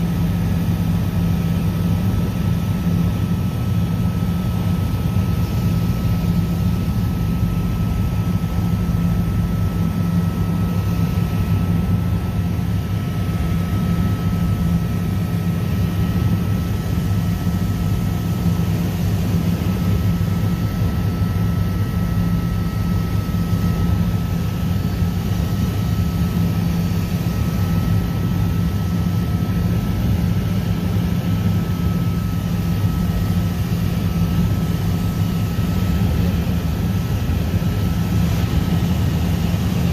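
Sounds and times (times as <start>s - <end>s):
helicopter engine and rotors droning: 0.0s - 39.9s
thin steady whine: 0.0s - 39.9s.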